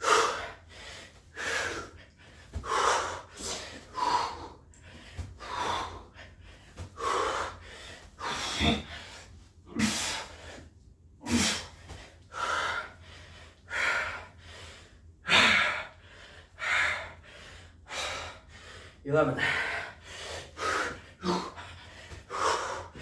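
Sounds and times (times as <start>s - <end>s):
man breathing hard: 0.0s - 23.0s.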